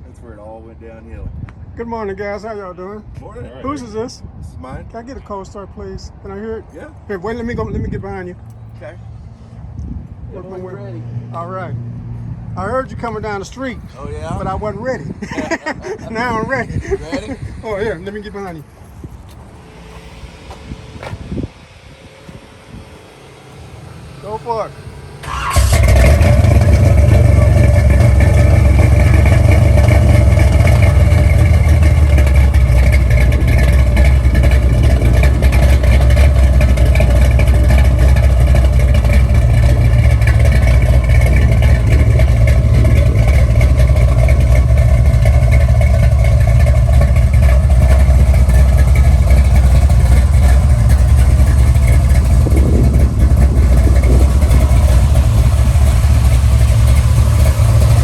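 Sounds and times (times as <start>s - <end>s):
car exhaust rumble: 0.0s - 58.0s.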